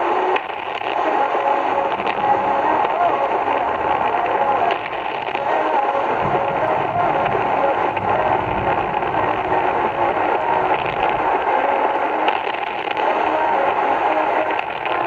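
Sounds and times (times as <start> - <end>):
radio static crackles: 0.0 - 15.0
radio static hiss: 0.0 - 15.0.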